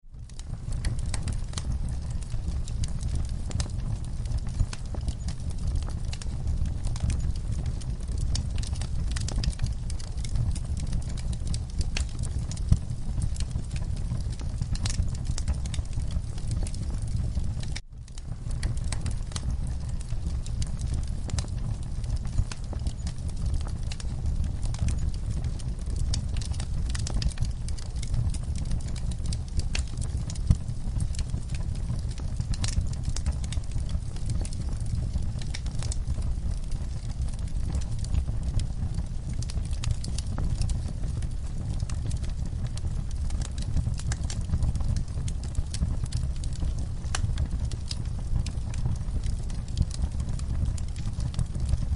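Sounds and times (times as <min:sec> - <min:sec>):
wood fire crackling: 0:00.0 - 0:51.9
steady low rumble: 0:00.1 - 0:51.9
fire pops and snaps: 0:00.2 - 0:51.9.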